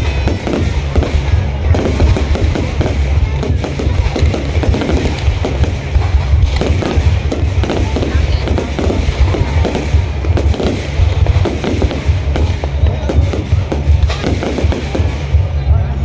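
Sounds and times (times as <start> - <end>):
fireworks bangs and crackles: 0.0 - 16.0
low rumble: 0.0 - 16.0
music playing: 0.0 - 16.0.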